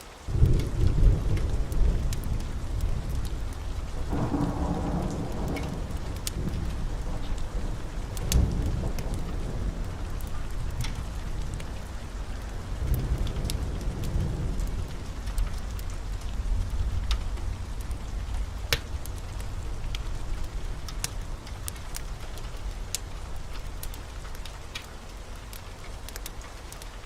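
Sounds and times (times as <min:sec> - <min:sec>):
heavy rain: 0:00.0 - 0:27.0
thunder rumbling: 0:00.3 - 0:26.5.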